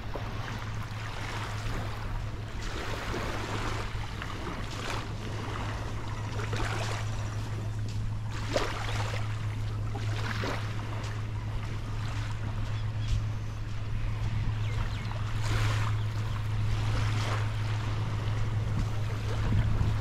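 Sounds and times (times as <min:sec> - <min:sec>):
small waves washing on sand: 0:00.0 - 0:20.0
steady low hum: 0:00.0 - 0:20.0.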